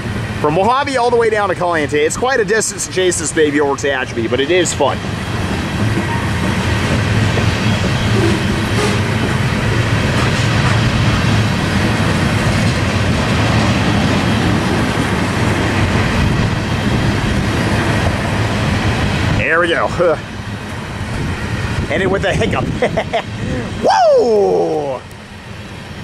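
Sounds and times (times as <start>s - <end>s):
train wheels rolling on rails: 0.0s - 26.0s.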